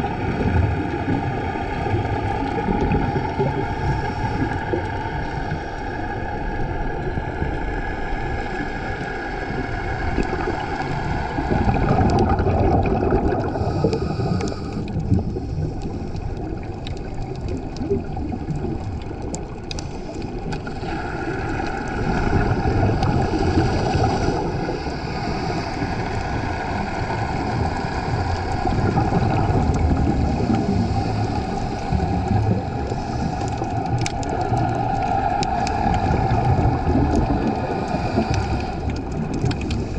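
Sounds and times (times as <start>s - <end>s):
boat engines drone underwater: 0.0s - 39.9s
exhaled bubbles rushing: 0.0s - 39.9s.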